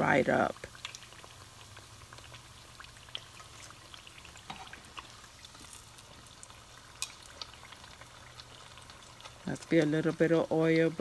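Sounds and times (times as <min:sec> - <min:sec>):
oil crackling and spitting: 0:00.6 - 0:10.4.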